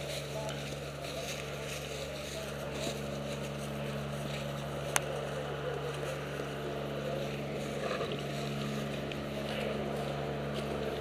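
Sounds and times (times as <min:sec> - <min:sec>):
dry leaves crunching underfoot: 0:00.0 - 0:11.0
steady low hum: 0:00.0 - 0:11.0.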